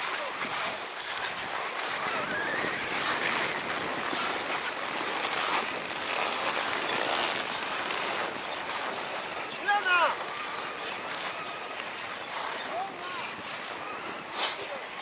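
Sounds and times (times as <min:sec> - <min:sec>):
skis sliding on snow: 0:00.0 - 0:15.0.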